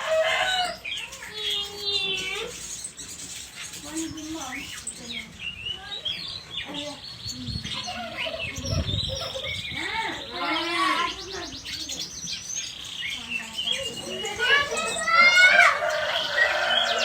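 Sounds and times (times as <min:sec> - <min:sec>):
rapid bird trill: 0:00.0 - 0:17.0
songbirds chirping and singing: 0:00.0 - 0:17.0.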